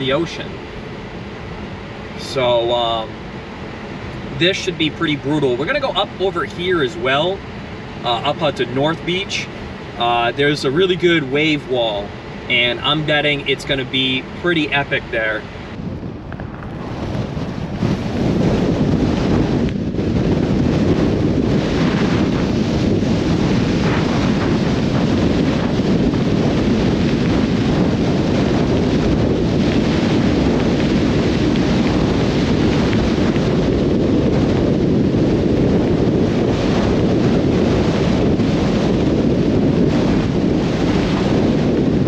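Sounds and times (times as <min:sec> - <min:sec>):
tyres on snowy road: 0:00.0 - 0:42.0
wind buffeting microphone: 0:00.0 - 0:42.0.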